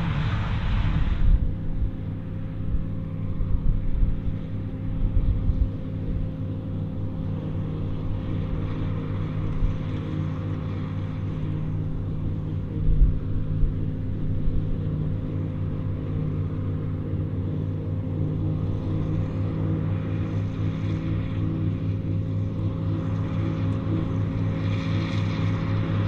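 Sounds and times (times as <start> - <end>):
diesel tractor engine drone: 0.0 - 26.0
second tractor running: 0.0 - 26.0
forage harvester chopping and blowing: 3.6 - 26.0.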